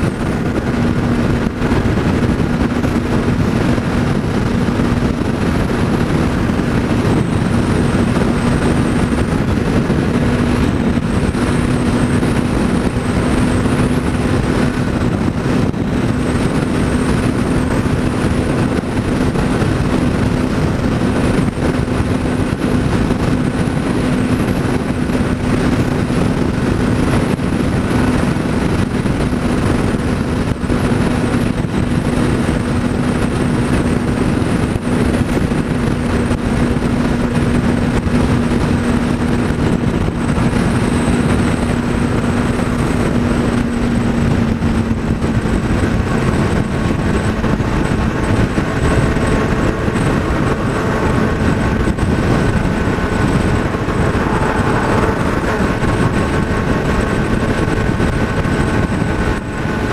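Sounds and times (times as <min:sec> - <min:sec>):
motorcycle engine cruising: 0:00.0 - 0:59.9
wind rushing on microphone: 0:00.0 - 0:59.9.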